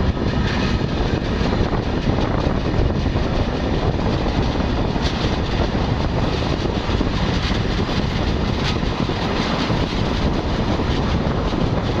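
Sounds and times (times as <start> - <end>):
rail joint clicks: 0.0 - 12.0
train wheels rumbling on rails: 0.0 - 12.0.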